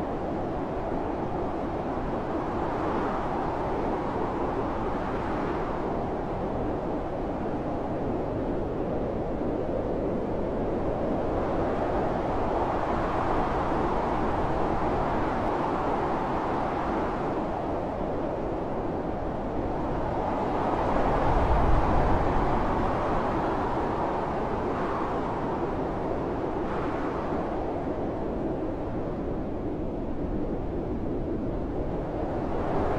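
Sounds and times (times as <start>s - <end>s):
wind blowing in gusts: 0.0s - 32.9s.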